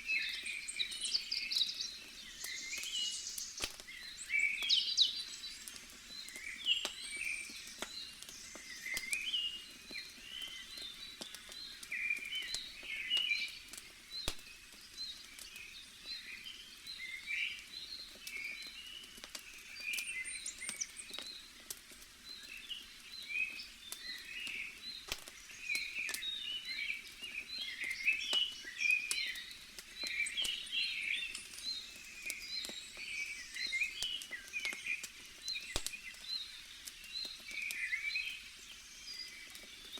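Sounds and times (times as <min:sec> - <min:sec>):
crackling bonfire: 0:00.0 - 0:39.9
small birds chirping: 0:00.0 - 0:39.9
fire popping: 0:00.7 - 0:15.9, 0:17.7 - 0:39.9.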